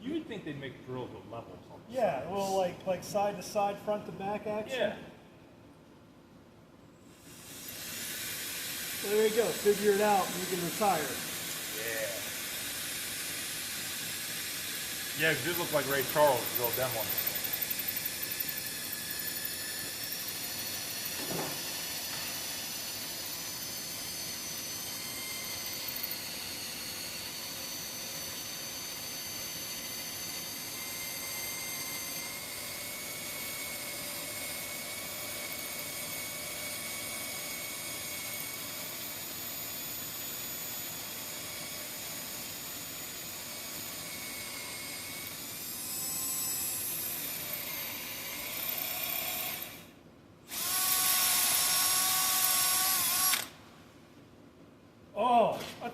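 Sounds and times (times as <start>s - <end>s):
electric drill whining: 7.1s - 53.6s.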